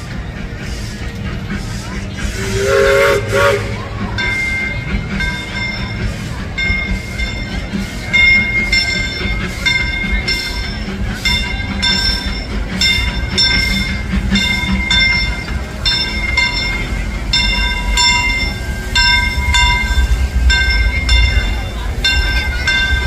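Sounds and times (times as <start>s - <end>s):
low rumble of moving train: 0.0s - 23.0s
steam locomotive bell ringing: 0.0s - 23.0s.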